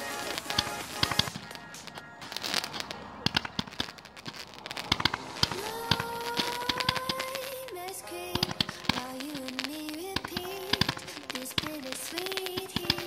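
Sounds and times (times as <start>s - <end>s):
music playing: 0.0s - 4.2s, 5.0s - 13.0s
fireworks bangs and crackles: 0.0s - 13.0s.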